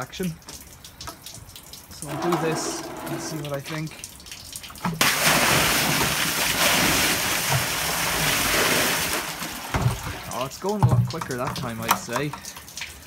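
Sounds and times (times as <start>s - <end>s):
water gushing and splashing: 1.9s - 13.0s.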